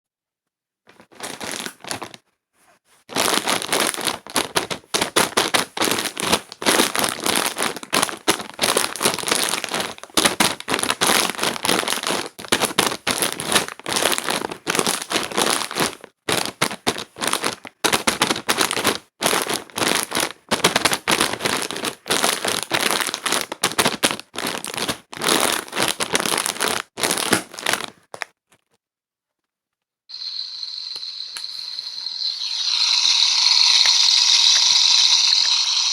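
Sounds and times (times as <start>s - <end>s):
crinkling of handled material: 0.9s - 29.8s.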